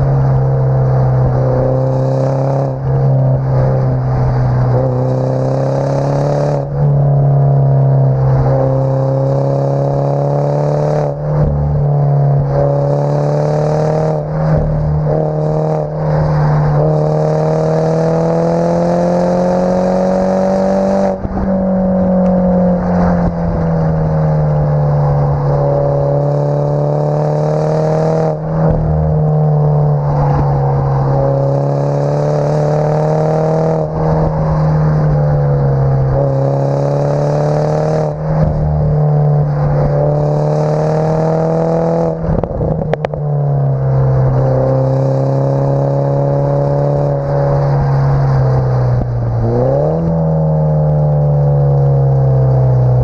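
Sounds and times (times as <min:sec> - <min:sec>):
muffled car exhaust while driving: 0:00.0 - 0:53.0.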